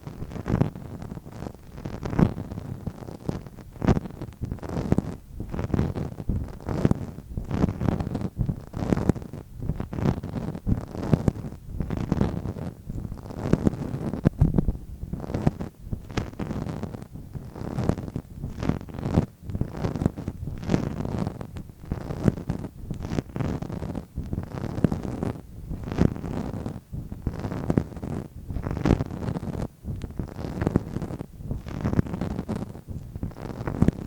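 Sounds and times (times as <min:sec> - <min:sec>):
muffled low rumble: 0:00.0 - 0:34.0.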